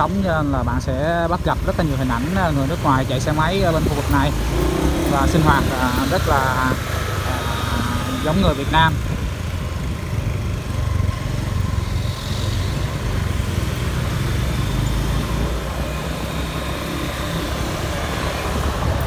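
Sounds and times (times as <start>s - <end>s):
passing traffic: 0.0s - 19.0s
vehicle engine and road rumble: 0.0s - 19.0s
wind: 0.0s - 19.0s.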